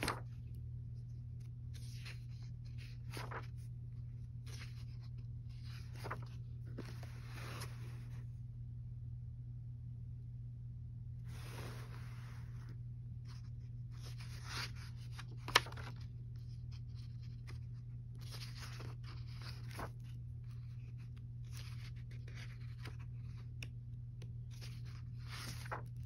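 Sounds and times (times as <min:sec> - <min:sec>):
paper pages turning and rustling: 0:00.0 - 0:08.3, 0:11.3 - 0:26.0
steady low hum: 0:00.0 - 0:26.0.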